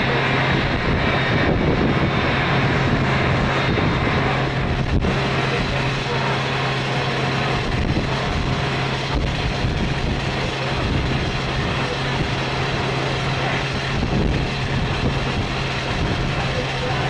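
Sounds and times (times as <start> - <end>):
even rushing noise: 0.0 - 17.0.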